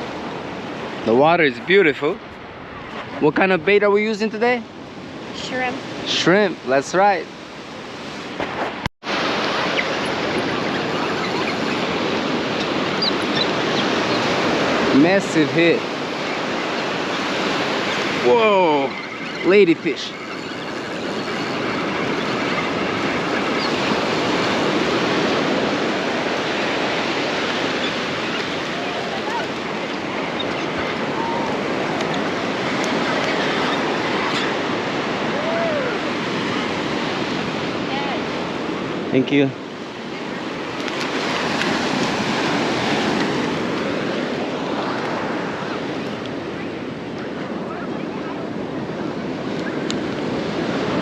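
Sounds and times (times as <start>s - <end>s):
ocean surf washing onto beach: 0.0s - 51.0s.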